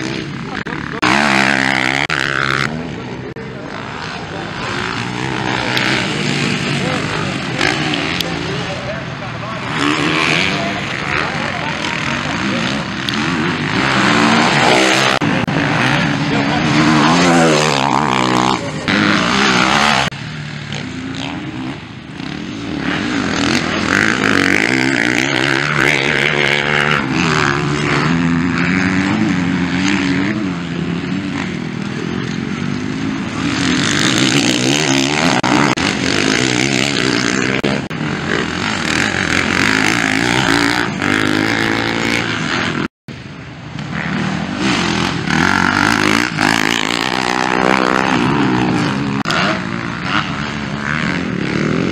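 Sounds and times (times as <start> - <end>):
motocross bikes revving past: 0.0 - 51.9.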